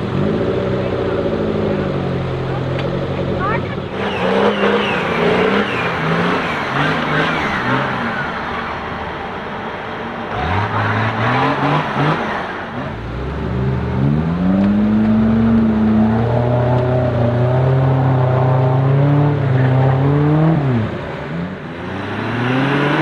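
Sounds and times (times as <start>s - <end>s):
off-road engine revving: 0.0s - 23.0s.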